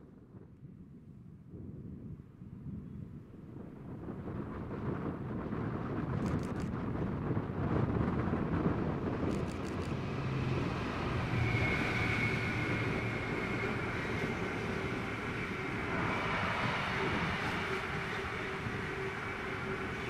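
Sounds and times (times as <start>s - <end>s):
train wheels rumbling on rail: 3.6s - 20.0s.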